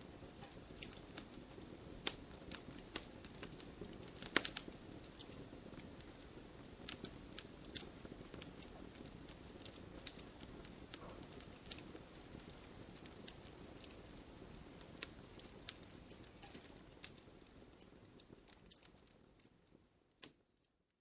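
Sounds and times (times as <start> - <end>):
campfire crackling: 0.0 - 20.6.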